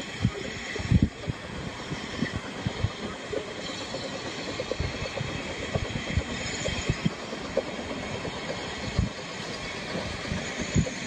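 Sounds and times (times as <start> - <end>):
distant steam train running: 0.0 - 11.0.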